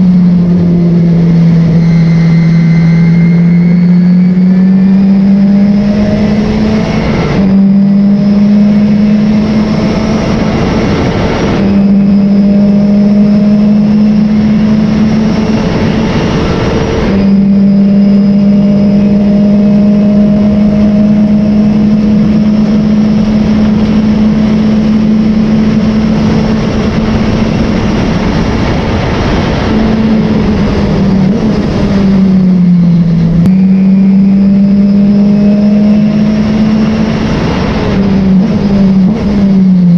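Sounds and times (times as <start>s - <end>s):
race car engine revving high: 0.0s - 39.9s.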